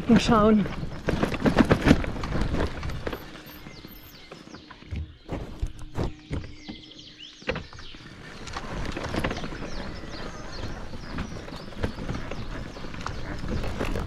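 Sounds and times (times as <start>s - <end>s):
birds chirping: 0.0s - 14.0s
rustling and crunching footsteps: 0.0s - 14.0s.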